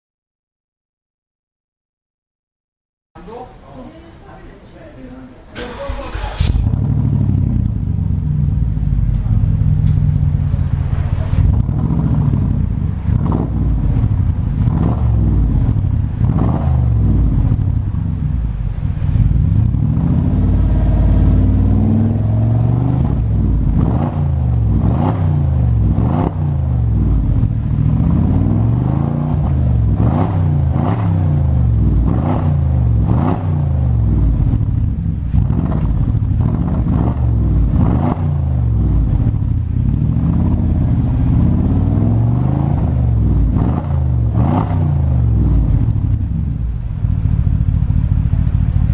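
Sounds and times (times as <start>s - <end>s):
car engine idling: 3.2s - 48.9s
engine revving in throttle blips: 5.6s - 48.9s.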